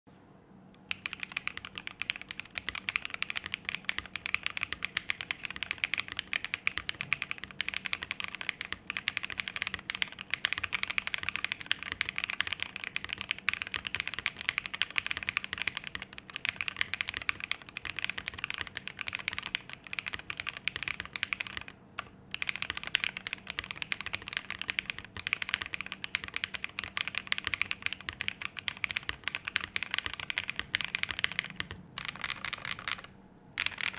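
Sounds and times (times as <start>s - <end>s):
fast mechanical keyboard typing: 0.9s - 33.9s.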